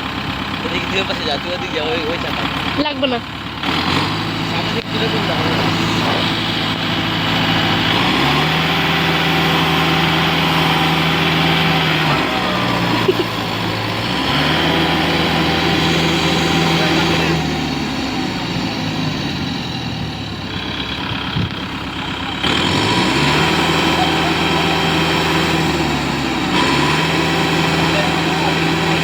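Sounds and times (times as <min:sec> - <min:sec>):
tractor diesel engine revving: 0:00.0 - 0:29.0.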